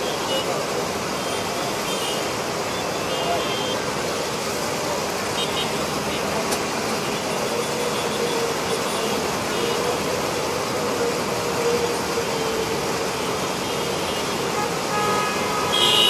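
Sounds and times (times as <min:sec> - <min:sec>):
city road traffic: 0:00.0 - 0:16.0.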